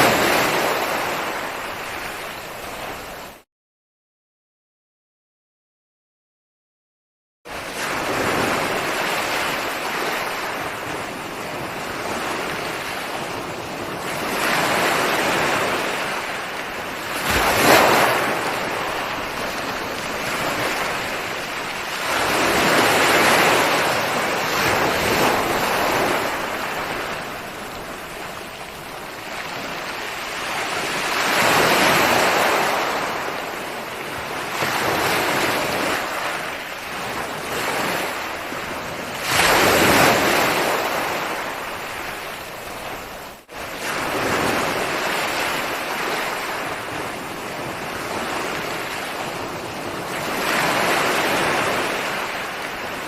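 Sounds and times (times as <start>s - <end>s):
ocean waves breaking on shore: 0.0s - 3.4s, 7.5s - 53.0s.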